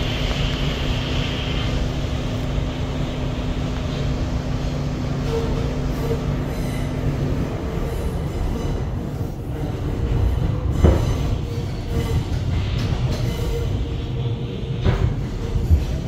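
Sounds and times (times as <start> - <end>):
subway car wheels rumbling: 0.0 - 16.0.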